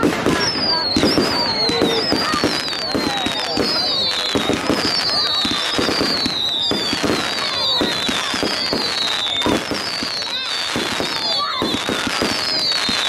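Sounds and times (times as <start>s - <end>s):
fireworks bangs and crackles: 0.0s - 13.0s
high falling whistle: 0.3s - 13.0s.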